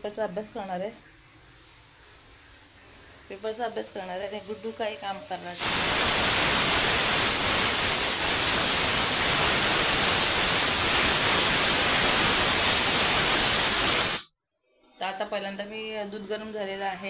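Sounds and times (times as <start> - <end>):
static hiss: 0.0 - 14.4.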